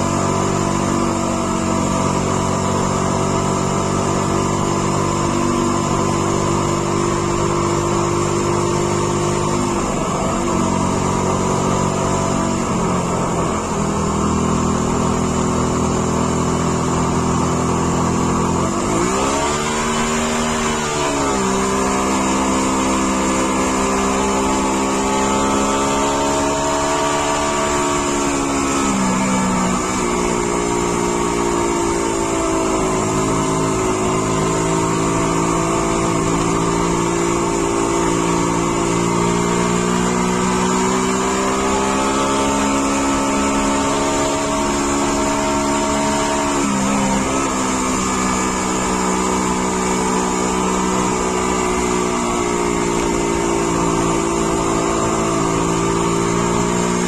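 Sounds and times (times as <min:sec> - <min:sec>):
car engine drone from inside: 0:00.0 - 0:57.0.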